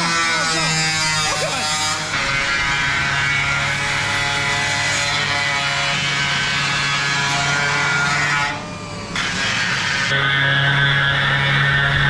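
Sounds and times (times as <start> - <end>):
power tool cutting sheet metal: 0.0 - 12.0.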